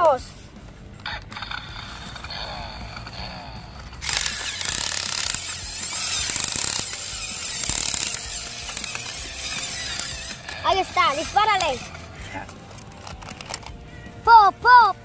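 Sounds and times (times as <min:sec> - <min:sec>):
toy truck motor and gears whirring: 0:00.0 - 0:14.3.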